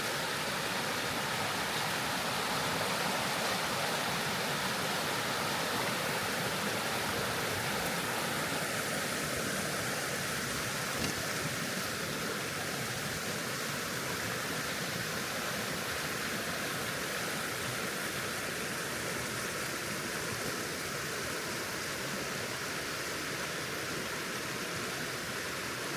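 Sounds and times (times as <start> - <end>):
water rushing: 0.0 - 25.9.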